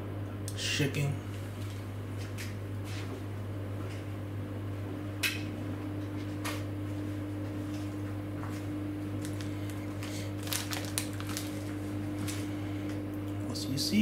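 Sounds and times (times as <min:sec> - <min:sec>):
washing machine spinning hum: 0:00.0 - 0:14.0.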